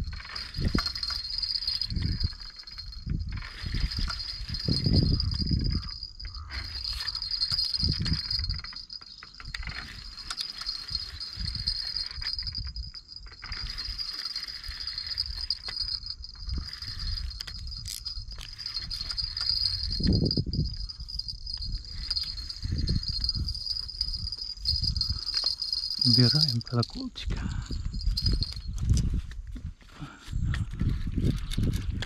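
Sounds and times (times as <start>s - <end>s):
low rumbling: 0.0s - 29.2s
insects chirring: 0.0s - 29.4s.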